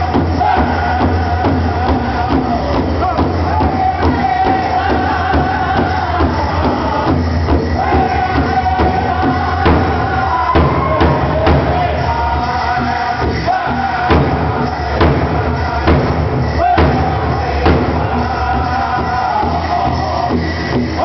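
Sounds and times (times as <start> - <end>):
big drum beat: 0.0 - 21.0
voices singing in unison: 0.0 - 21.0.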